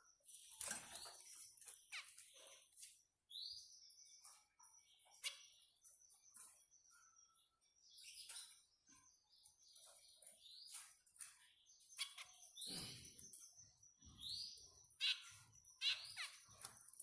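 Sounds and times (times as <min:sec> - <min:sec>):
finches chirping: 0:00.0 - 0:17.0.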